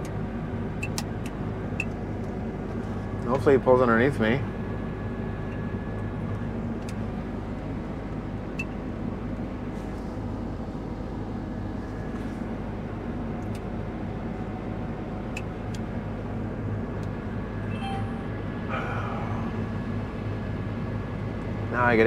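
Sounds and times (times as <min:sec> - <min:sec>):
combine harvester drone: 0:00.0 - 0:22.0.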